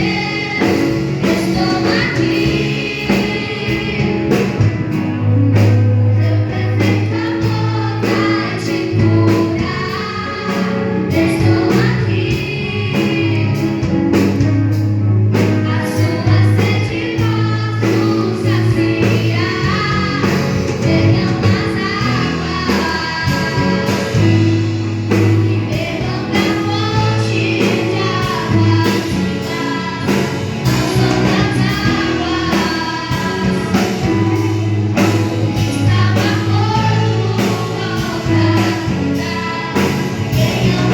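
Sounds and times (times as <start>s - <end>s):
choir singing gospel: 0.0s - 40.9s
instrumental backing with beat: 0.0s - 40.9s.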